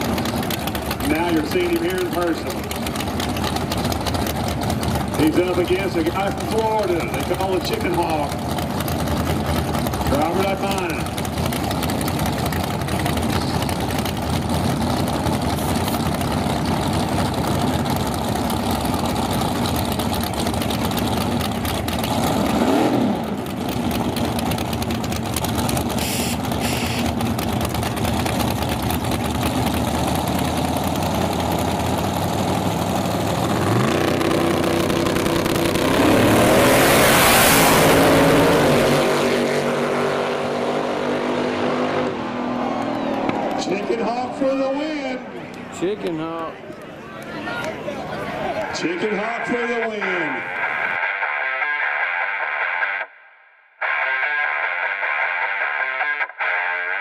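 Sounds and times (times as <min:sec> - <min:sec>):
race cars launching full throttle: 0:00.0 - 0:46.5
race car engines idling and blipping: 0:00.0 - 0:53.0.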